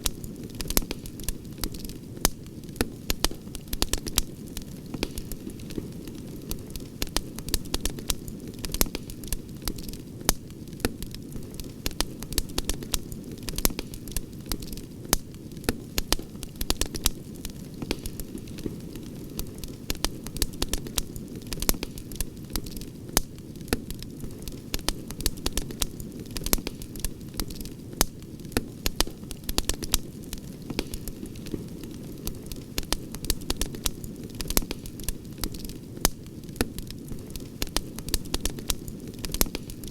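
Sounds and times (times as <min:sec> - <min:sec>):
campfire pops and snaps: 0:00.0 - 0:39.9.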